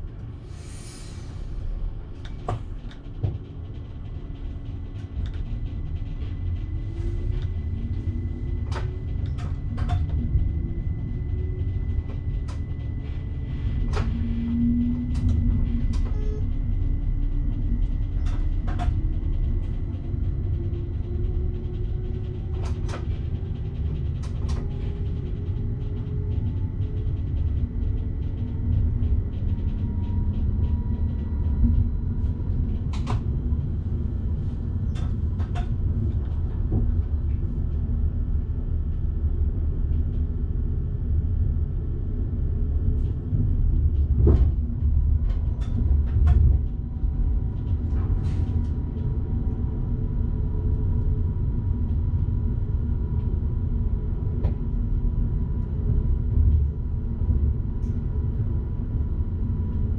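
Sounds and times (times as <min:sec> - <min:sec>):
train rumbling on track: 0:00.0 - 0:41.4, 0:42.1 - 0:59.9.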